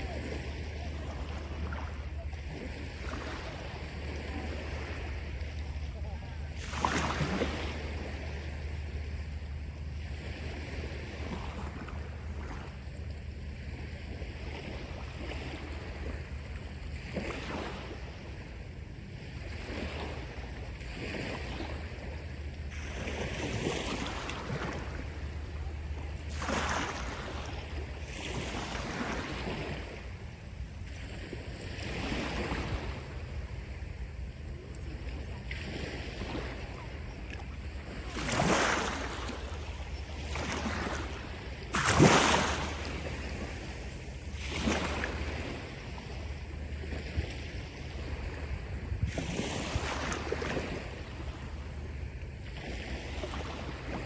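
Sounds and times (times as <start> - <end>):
sea waves breaking on shore: 0.0 - 54.0
steady low rumble: 0.0 - 54.0.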